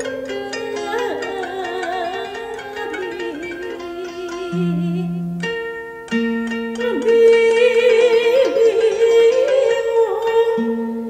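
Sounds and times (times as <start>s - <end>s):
plucked zither notes: 0.0s - 11.0s
wavering sliding melody: 0.0s - 11.0s.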